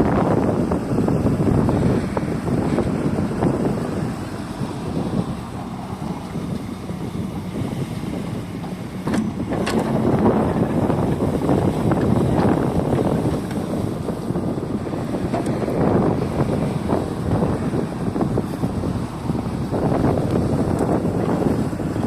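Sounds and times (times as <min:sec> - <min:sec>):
excavator diesel engine under load: 0:00.0 - 0:22.0
wind on microphone: 0:00.0 - 0:22.0.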